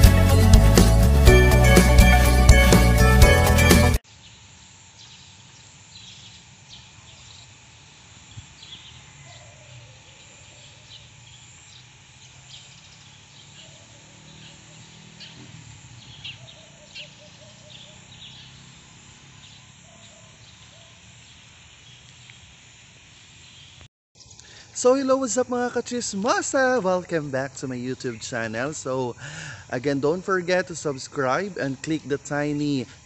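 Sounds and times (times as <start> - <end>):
small birds chirping: 4.1 - 23.9, 25.8 - 33.0.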